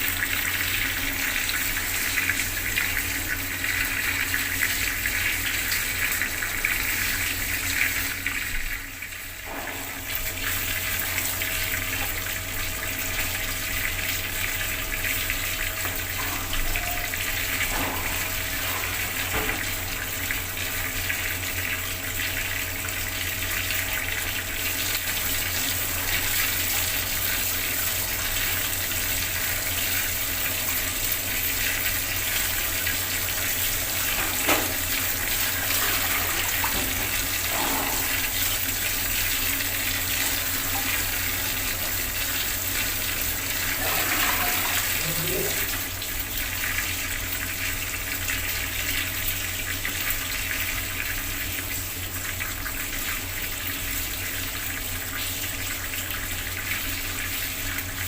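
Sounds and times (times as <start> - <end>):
water tap running: 0.0 - 58.0.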